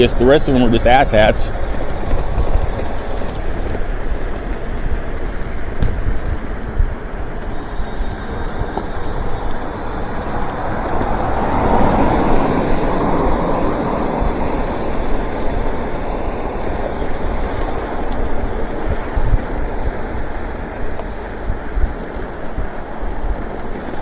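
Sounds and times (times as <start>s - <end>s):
tyre noise on wet road: 0.0s - 24.0s
wind rush on microphone: 0.0s - 24.0s.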